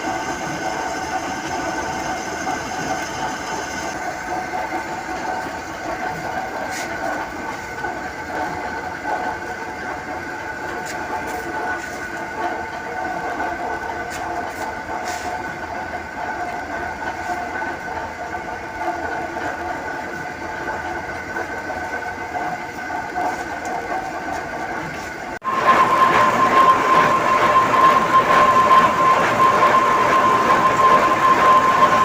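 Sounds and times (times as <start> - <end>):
lathe whining: 0.0 - 32.0.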